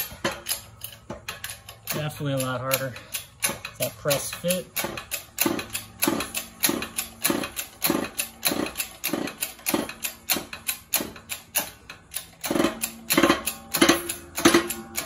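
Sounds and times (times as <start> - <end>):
hydraulic press hand-pumped: 0.0 - 15.0.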